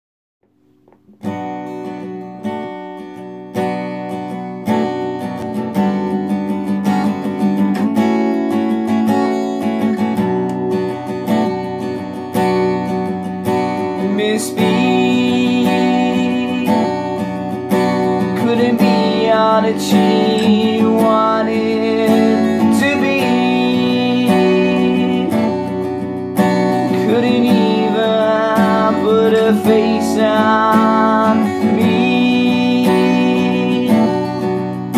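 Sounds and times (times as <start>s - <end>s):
acoustic guitar strummed and picked: 0.4s - 34.9s.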